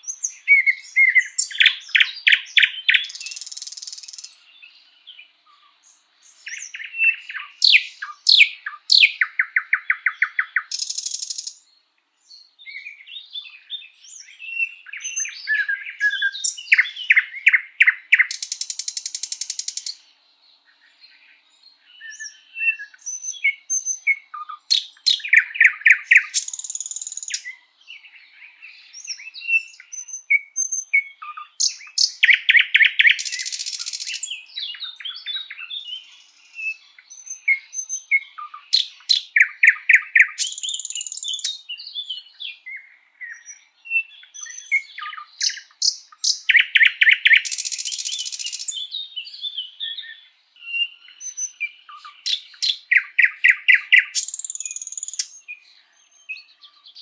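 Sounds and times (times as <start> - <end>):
bird song phrases: 0.0 - 57.0
soft bird twitters: 0.0 - 57.0.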